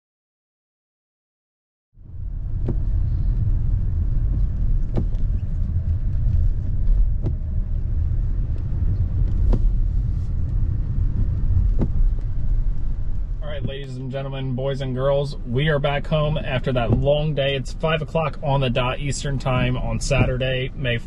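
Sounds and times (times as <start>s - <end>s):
road and engine rumble: 2.0s - 21.0s.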